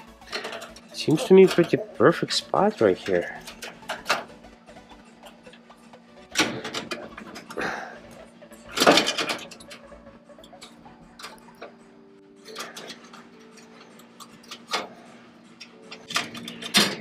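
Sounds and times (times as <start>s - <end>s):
metal parts and tools clicking: 0.0s - 11.8s, 12.4s - 17.0s.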